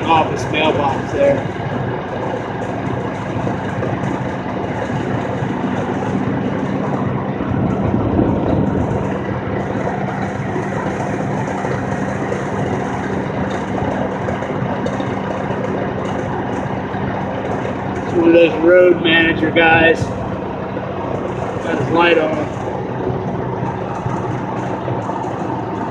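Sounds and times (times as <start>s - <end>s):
road and tyre rumble: 0.0s - 25.9s
vehicle engine drone: 0.0s - 25.9s.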